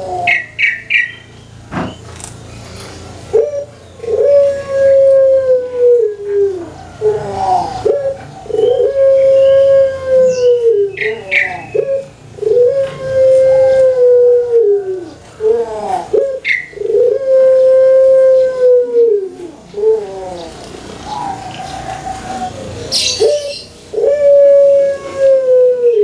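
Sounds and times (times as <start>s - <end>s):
dove cooing: 0.0s - 1.2s, 3.2s - 26.0s.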